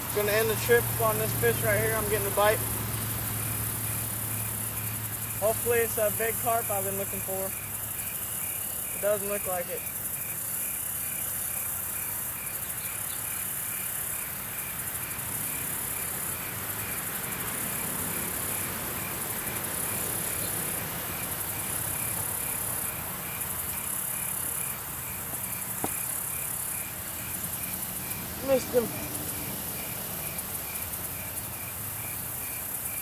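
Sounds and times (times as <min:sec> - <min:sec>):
crickets trilling: 0:00.0 - 0:33.0
insect chirping evenly: 0:00.0 - 0:33.0.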